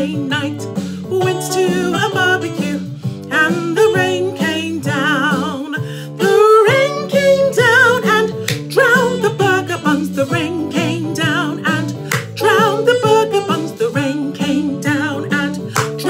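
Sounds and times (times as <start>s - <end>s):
woman singing blues: 0.0s - 16.0s
instrumental accompaniment: 0.1s - 16.0s.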